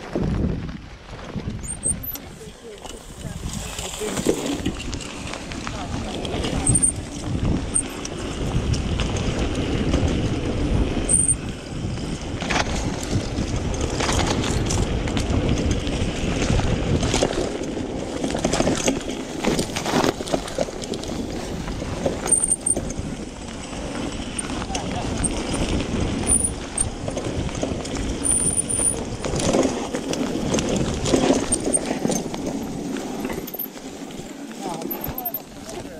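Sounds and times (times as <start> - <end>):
bicycle knocking and rattling: 0.0 - 35.9
tyres rolling on dirt trail: 0.0 - 35.9
wind rumbling on microphone: 0.0 - 35.9.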